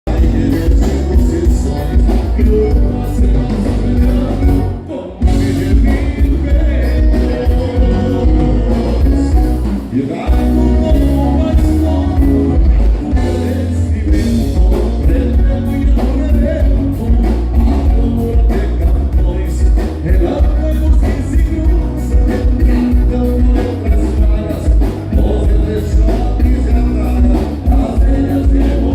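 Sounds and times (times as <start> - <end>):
electric bass line: 0.0 - 28.9
live band playing: 0.0 - 28.9.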